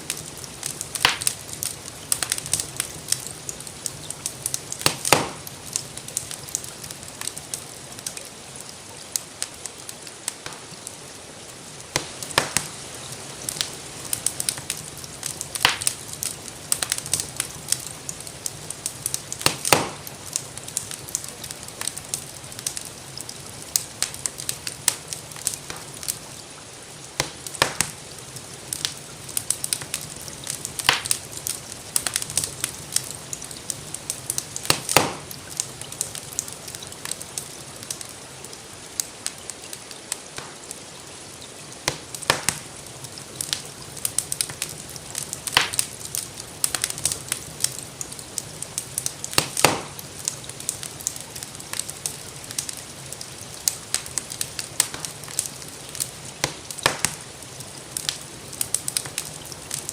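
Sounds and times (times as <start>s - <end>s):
gentle rain hiss: 0.0s - 59.9s
wood fire crackling: 0.0s - 59.9s.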